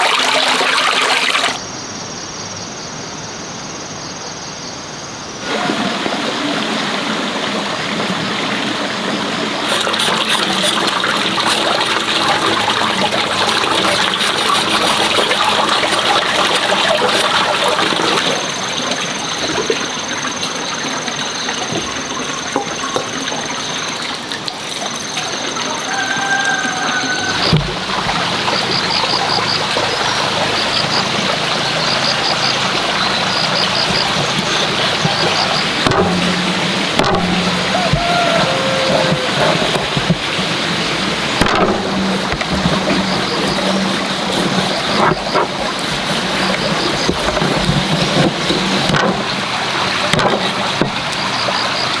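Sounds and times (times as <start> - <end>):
running and splashing water: 0.0 - 1.6, 5.4 - 52.0.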